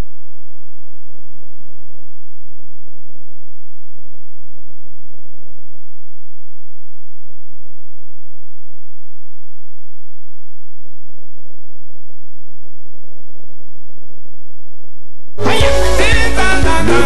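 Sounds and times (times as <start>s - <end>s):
low crackling noise: 0.0s - 15.4s.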